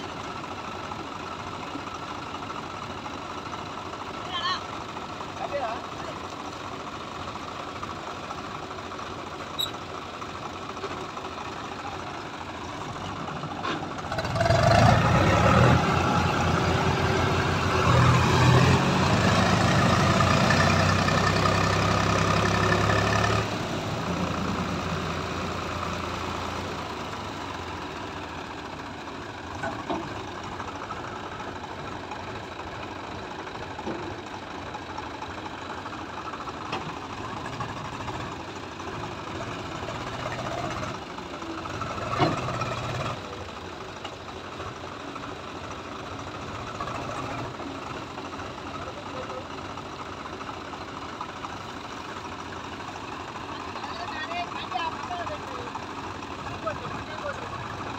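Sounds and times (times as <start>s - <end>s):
tractor diesel engine revving: 0.0s - 57.9s.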